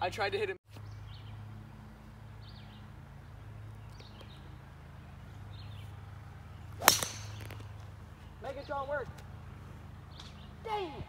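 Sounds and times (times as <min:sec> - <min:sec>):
low outdoor hum: 0:00.0 - 0:11.0
birds chirping: 0:00.7 - 0:11.0.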